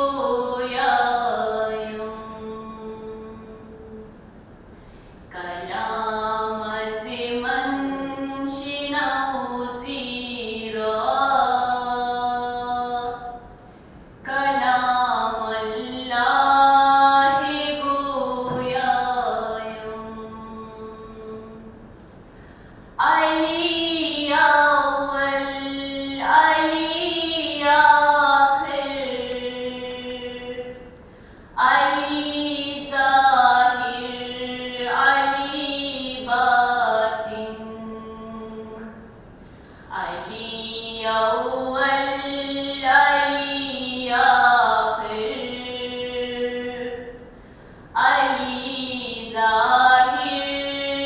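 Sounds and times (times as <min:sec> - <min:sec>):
woman chanting: 0:00.0 - 0:04.1, 0:05.3 - 0:13.5, 0:14.2 - 0:21.7, 0:23.0 - 0:31.0, 0:31.6 - 0:39.1, 0:39.9 - 0:47.2, 0:48.0 - 0:51.0.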